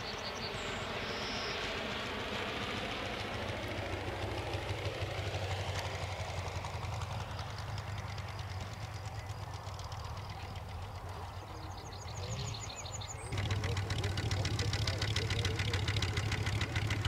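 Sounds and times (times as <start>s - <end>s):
model aircraft engine running: 0.0s - 17.0s.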